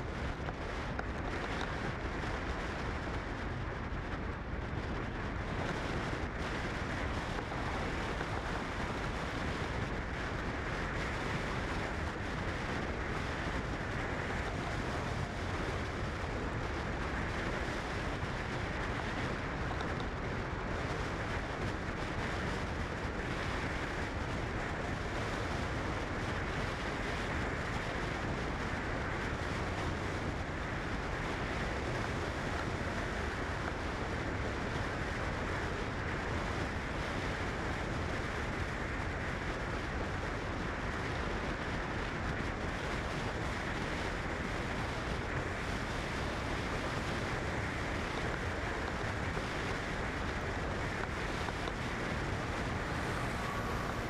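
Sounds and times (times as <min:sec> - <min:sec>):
wind and road noise of car: 0:00.0 - 0:54.0.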